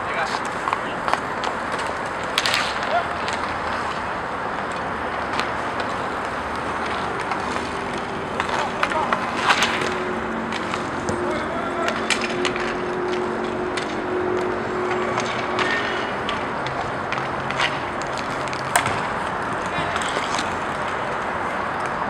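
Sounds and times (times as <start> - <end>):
hockey sticks and puck clacks: 0.0 - 22.0
skate wheels rolling hiss: 0.0 - 22.0.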